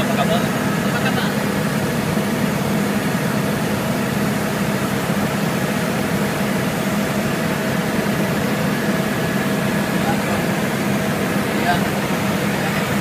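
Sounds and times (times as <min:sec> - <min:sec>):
helicopter engine and rotor noise: 0:00.0 - 0:13.0.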